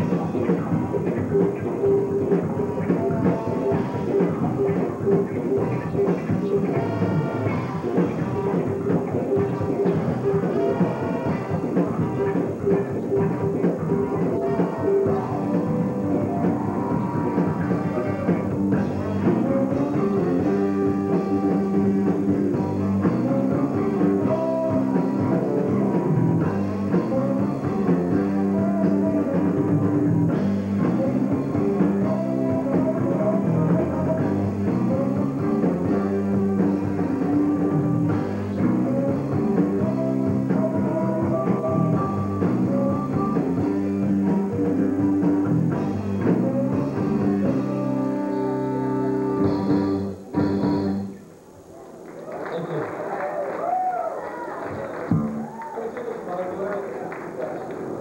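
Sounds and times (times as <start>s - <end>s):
drum kit: 0.0s - 51.2s
electric guitars: 0.0s - 52.1s, 53.6s - 56.2s.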